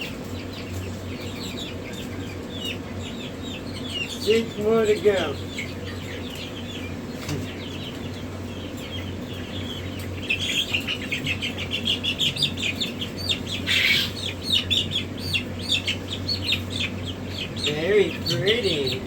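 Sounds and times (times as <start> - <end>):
chicks peeping: 0.0 - 19.0
steady low hum: 0.0 - 19.0.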